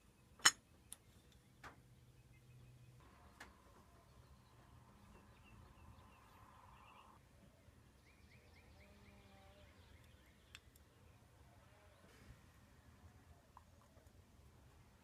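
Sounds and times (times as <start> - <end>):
faint chirping trills: 0.0 - 12.1.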